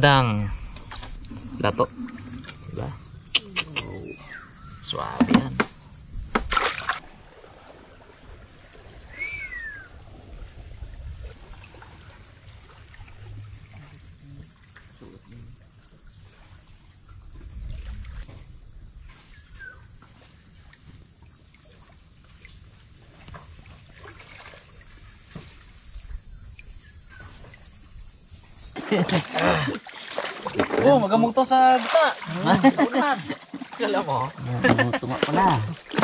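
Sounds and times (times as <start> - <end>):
insect chorus chirring: 0.0 - 36.0.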